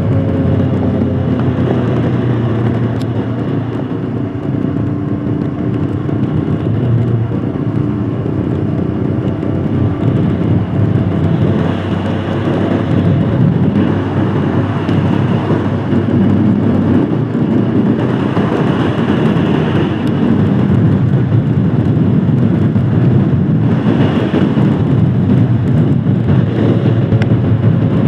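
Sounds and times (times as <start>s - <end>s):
motorcycle engine running: 0.0s - 28.0s
road and wind noise: 0.0s - 28.0s.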